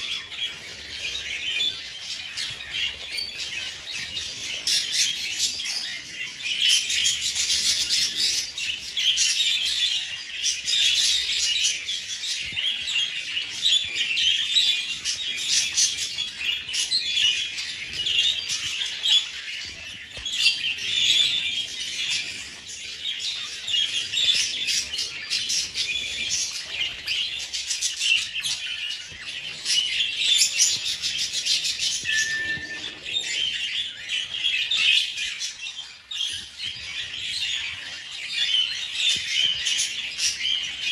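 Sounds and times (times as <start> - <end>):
budgies chirping and chattering: 0.0 - 40.9.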